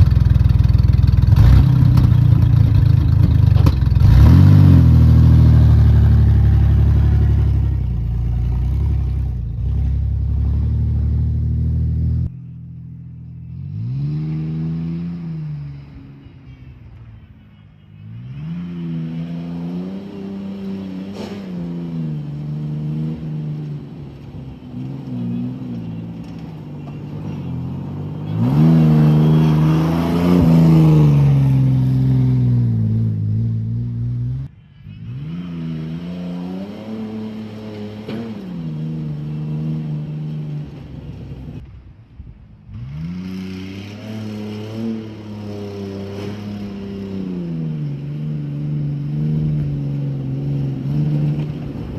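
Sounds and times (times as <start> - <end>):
truck engine revving with misfire: 0.0 - 12.4, 13.5 - 16.6, 18.0 - 41.7, 42.7 - 51.9.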